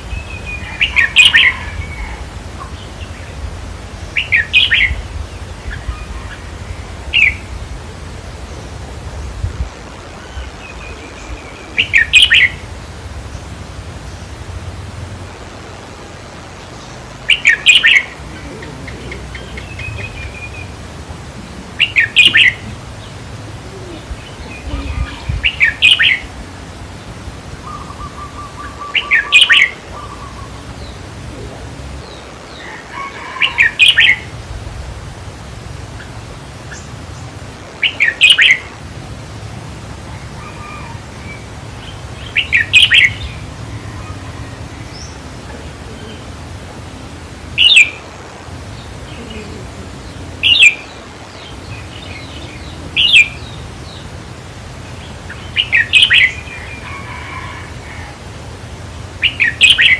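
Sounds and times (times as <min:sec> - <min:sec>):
bird singing bright phrases: 0:00.0 - 0:09.5, 0:10.1 - 0:15.2, 0:16.6 - 0:59.9
faint bird chirps: 0:00.0 - 0:09.5, 0:16.6 - 0:59.9.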